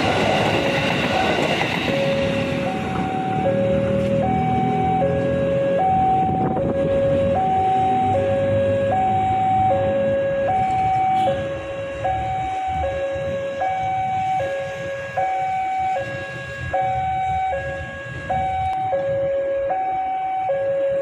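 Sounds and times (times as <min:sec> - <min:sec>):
low traffic rumble: 0:00.0 - 0:21.0
two-tone hi-low siren: 0:01.9 - 0:21.0.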